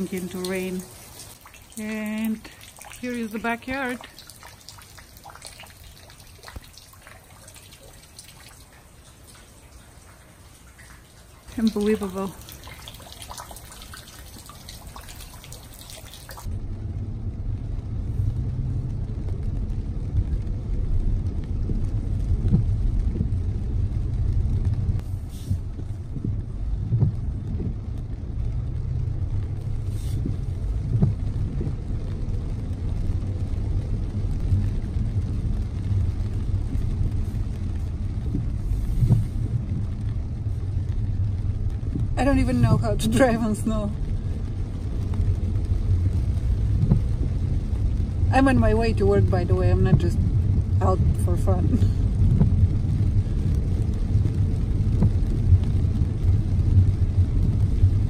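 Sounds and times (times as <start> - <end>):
rain and sleet hiss: 0.0 - 58.0
car engine and tyres rumbling: 3.4 - 58.0.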